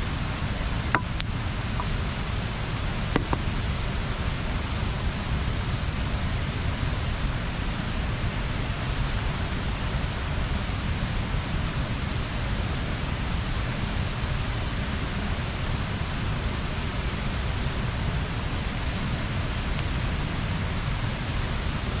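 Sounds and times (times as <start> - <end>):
bonfire rushing hiss and rumble: 0.0 - 22.0.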